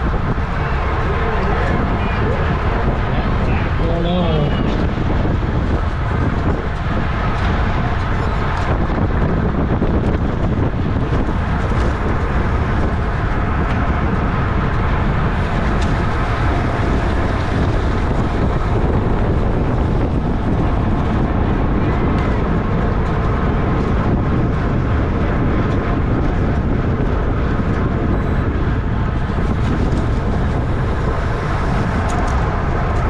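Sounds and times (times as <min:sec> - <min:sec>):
road and tyre noise: 0:00.0 - 0:33.0
wind buffeting microphone: 0:00.0 - 0:33.0.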